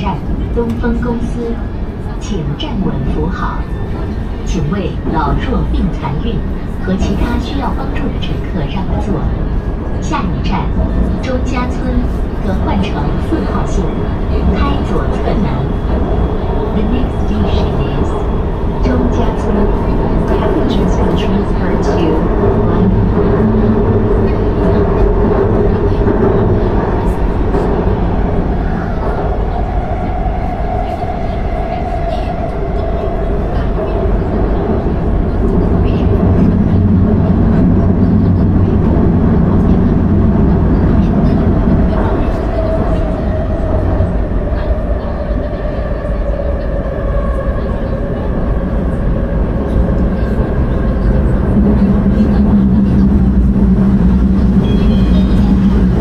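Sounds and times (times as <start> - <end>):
strong low hum: 0.0 - 45.5, 46.2 - 56.0
train wheels rumbling on rail: 0.0 - 56.0.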